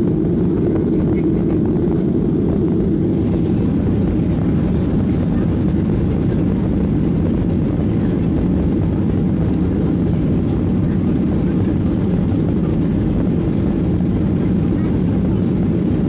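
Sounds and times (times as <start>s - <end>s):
jet engine roar in cabin: 0.0s - 16.0s.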